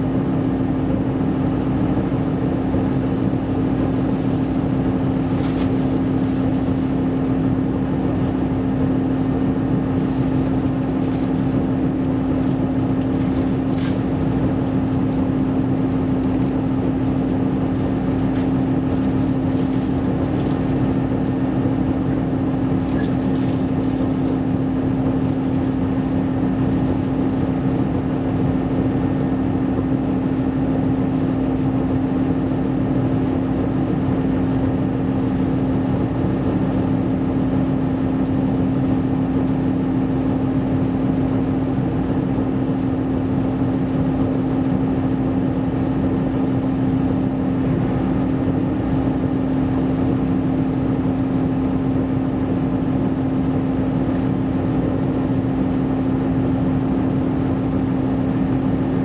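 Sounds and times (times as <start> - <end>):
diesel engine hum: 0.0 - 59.0.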